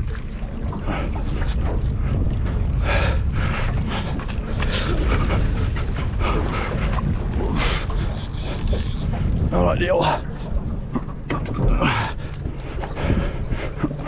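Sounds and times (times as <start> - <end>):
water sloshing against hull: 0.0 - 14.0
wind buffeting microphone: 0.0 - 14.0.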